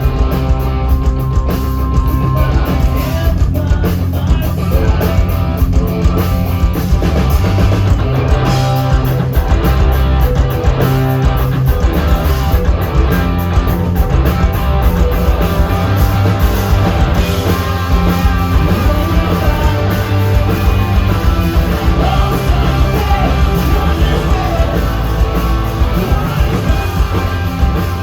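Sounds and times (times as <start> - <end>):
bass guitar: 0.0 - 28.0
distorted electric guitars: 0.0 - 28.0
drum kit with cymbal hits: 0.0 - 28.0.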